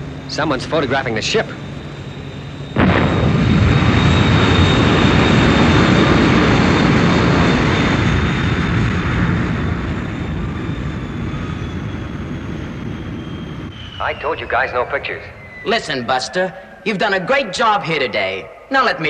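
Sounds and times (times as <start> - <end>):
rocket engine roar: 0.0 - 19.0
steady high whine: 0.0 - 19.0.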